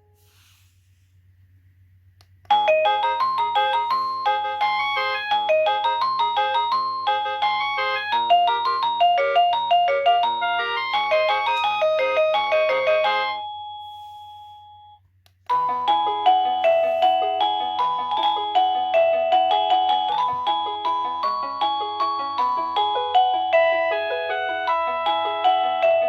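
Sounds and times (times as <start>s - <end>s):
faint low electrical hum: 0.0s - 22.2s
electronic doorbell chime melody: 2.5s - 26.0s.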